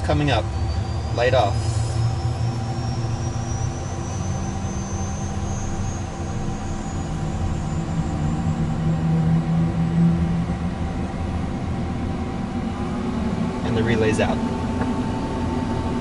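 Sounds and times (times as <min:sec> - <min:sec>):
jet engine spooling up: 0:00.0 - 0:16.0.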